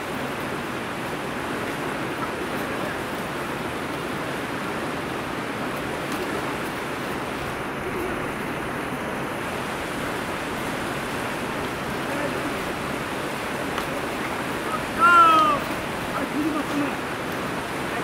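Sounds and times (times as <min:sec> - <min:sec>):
river rushing over rapids: 0:00.0 - 0:18.0.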